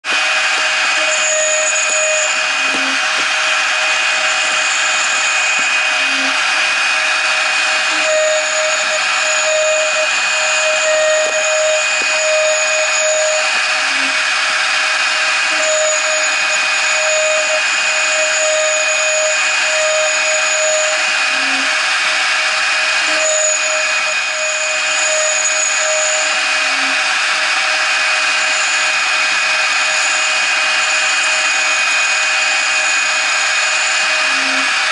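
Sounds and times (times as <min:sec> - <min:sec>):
end mill cutting aluminium: 0:00.0 - 0:34.9
router spindle whine: 0:00.0 - 0:34.9.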